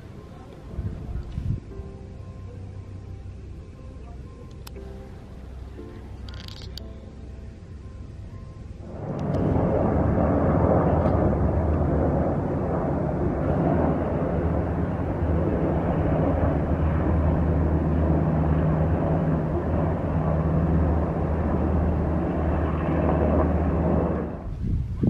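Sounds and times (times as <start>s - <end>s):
vehicle engine drone: 0.0s - 24.8s.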